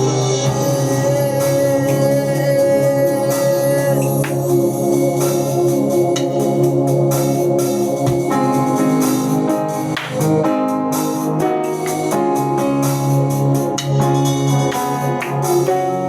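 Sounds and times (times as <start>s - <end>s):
electronic organ chords: 0.0s - 16.0s
steady beat: 0.0s - 16.0s.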